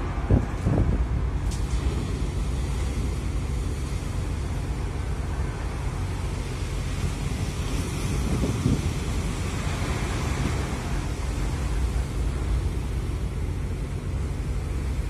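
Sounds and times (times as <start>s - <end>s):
waves breaking against ship: 0.0s - 15.0s
wind: 0.0s - 15.0s.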